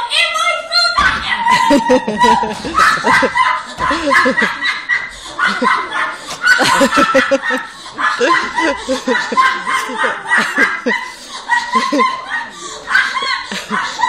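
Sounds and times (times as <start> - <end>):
audience laughing: 1.4 - 14.0.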